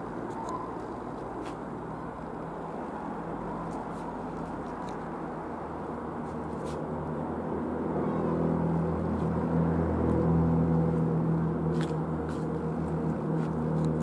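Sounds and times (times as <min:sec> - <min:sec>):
light aircraft engine and propeller drone: 0:00.0 - 0:14.0.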